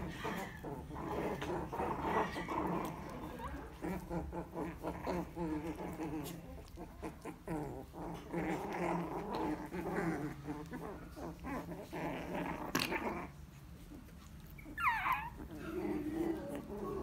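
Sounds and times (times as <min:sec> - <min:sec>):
puppies growling: 0:00.0 - 0:17.0.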